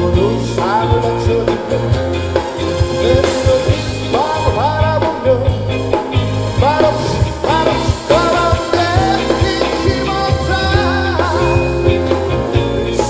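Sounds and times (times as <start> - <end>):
drum kit: 0.0 - 13.0
man singing: 0.0 - 13.0.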